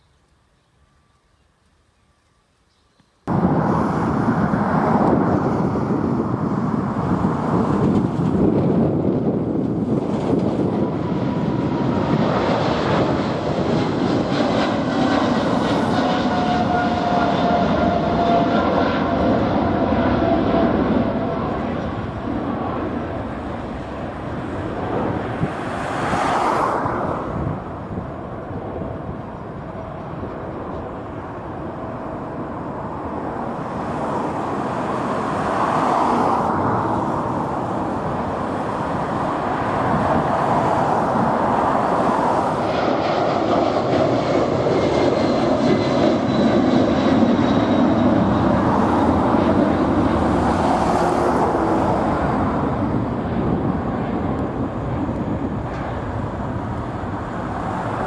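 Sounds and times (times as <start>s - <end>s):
jet airliner taking off: 3.3s - 58.0s
wind buffeting microphone: 3.3s - 58.0s.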